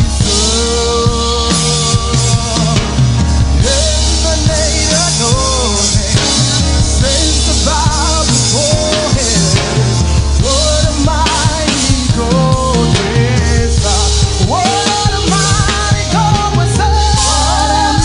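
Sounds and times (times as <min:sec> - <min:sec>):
drum kit: 0:00.0 - 0:18.0
gospel band music: 0:00.0 - 0:18.0
heavy bass line: 0:00.0 - 0:18.0.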